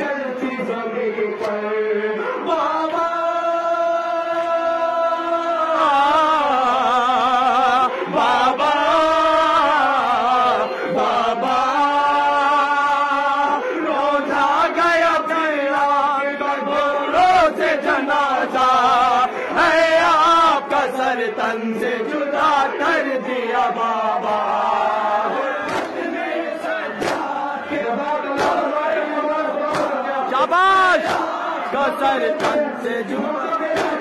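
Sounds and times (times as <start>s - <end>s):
man chanting a lament: 0.0s - 34.0s.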